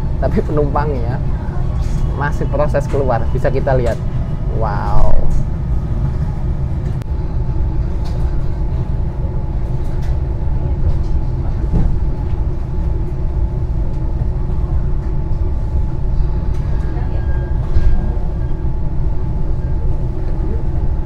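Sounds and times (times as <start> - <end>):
constant hum: 0.0 - 21.0
train rumbling: 0.0 - 21.0.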